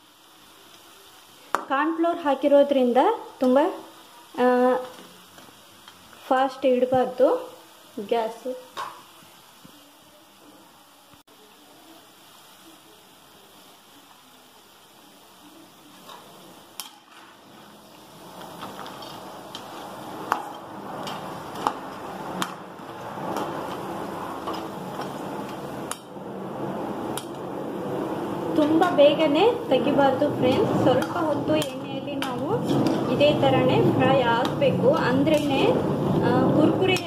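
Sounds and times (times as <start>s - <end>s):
peanuts sizzling in hot oil: 0.0s - 37.0s.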